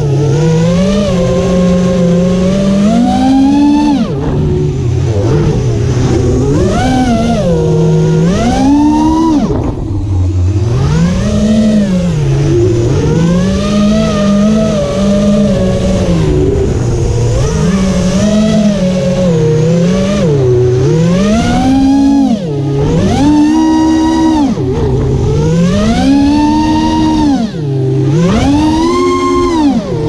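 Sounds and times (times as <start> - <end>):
quadcopter motors buzzing: 0.0 - 30.0.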